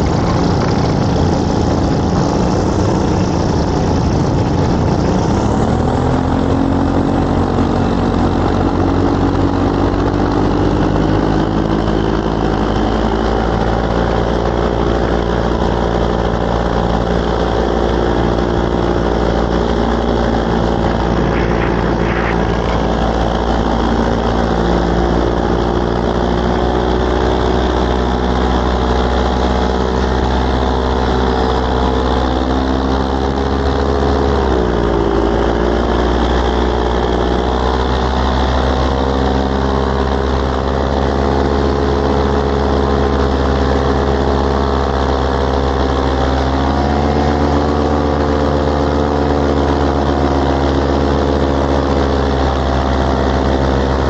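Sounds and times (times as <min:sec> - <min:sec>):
electric motor and propeller hum: 0:00.0 - 0:54.0.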